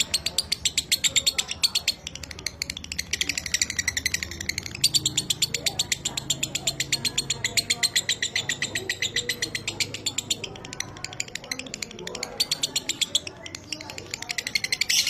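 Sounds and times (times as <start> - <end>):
lovebird rattling chatter: 0.0 - 15.0.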